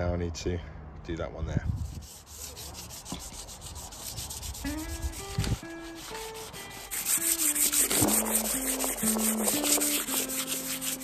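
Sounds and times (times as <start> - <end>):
sandpaper rubbing painted metal: 1.7 - 11.0.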